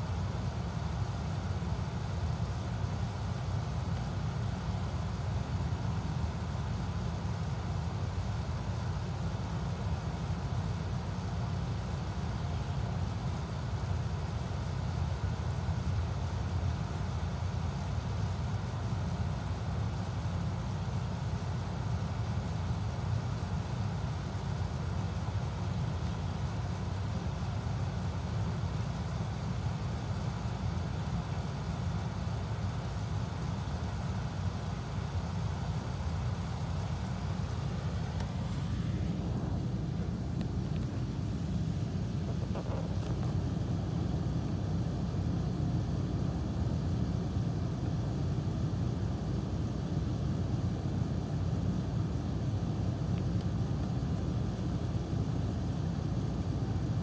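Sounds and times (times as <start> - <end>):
faint hiss: 0.0 - 57.0
low background rumble: 0.0 - 57.0.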